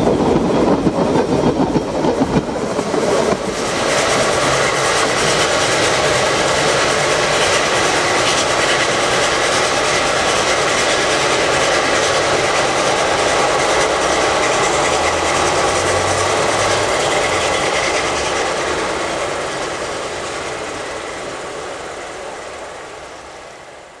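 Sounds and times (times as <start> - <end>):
steam train rolling: 0.0 - 24.0.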